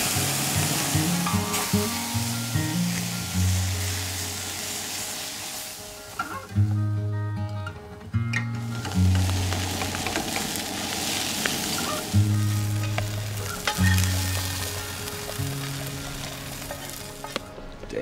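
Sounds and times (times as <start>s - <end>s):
food sizzling in a pan: 0.0s - 6.5s, 8.7s - 17.4s
background music low notes: 0.0s - 18.0s.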